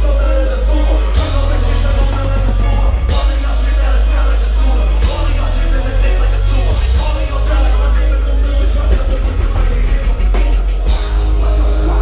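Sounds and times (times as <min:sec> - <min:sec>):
loud rock music: 0:00.0 - 0:12.0
person singing: 0:00.0 - 0:12.0.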